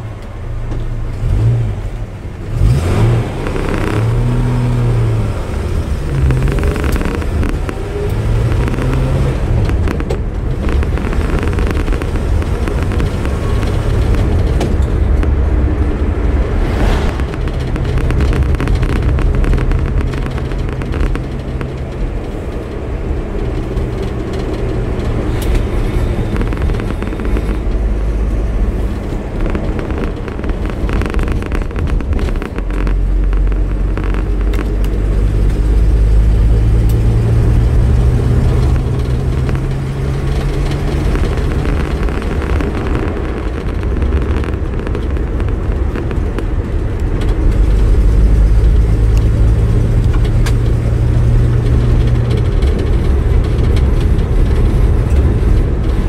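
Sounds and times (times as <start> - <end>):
car engine running: 0.0 - 56.0
road noise: 0.0 - 56.0.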